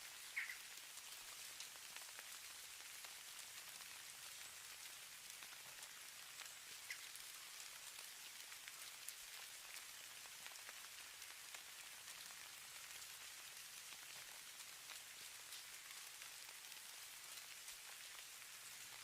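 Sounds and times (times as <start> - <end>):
hiss of falling snow: 0.0 - 19.0
snowflakes ticking on a surface: 0.0 - 19.0.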